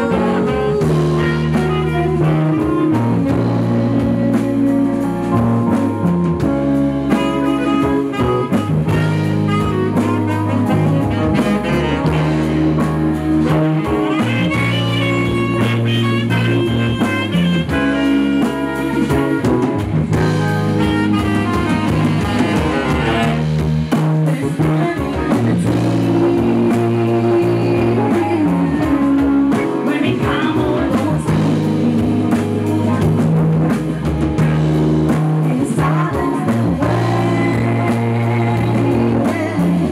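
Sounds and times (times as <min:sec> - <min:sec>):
horn section with trombone: 0:00.0 - 0:39.9
live band playing: 0:00.0 - 0:39.9
saxophone line: 0:00.0 - 0:39.9.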